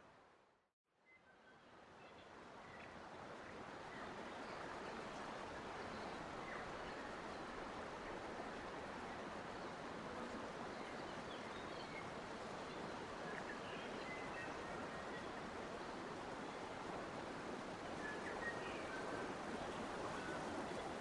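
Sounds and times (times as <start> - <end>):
flowing water rushing: 2.3 - 21.0.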